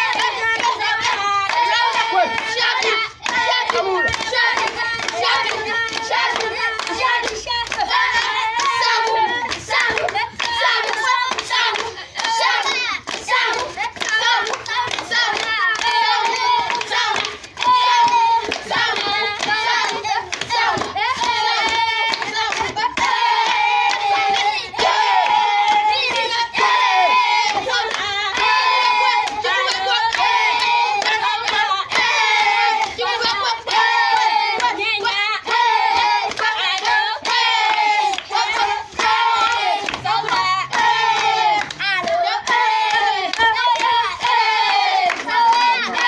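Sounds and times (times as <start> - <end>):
children clapping hands: 0.0 - 46.0
children singing together: 0.0 - 46.0.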